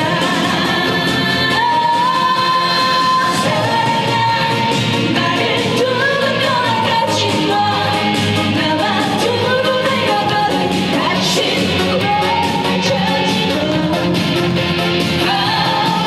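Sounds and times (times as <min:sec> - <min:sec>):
woman singing: 0:00.0 - 0:14.4, 0:15.2 - 0:16.0
loud backing music with beat: 0:00.0 - 0:16.0.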